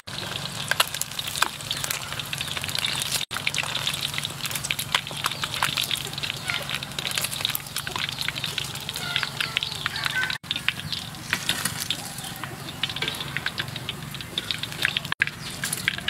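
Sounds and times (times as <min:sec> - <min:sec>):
food deep-frying in oil: 0:00.0 - 0:16.0.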